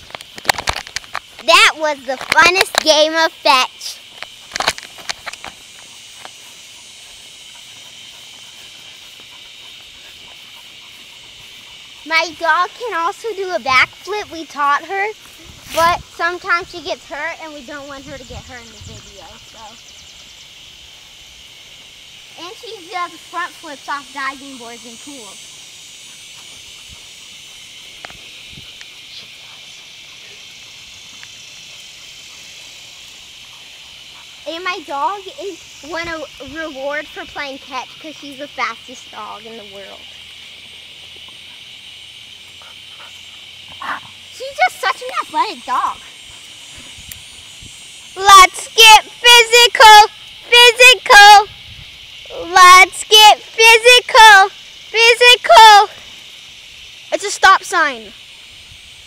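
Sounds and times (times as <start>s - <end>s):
high-pitched insect drone: 0.0s - 59.0s
high-pitched outdoor hiss: 0.0s - 59.0s.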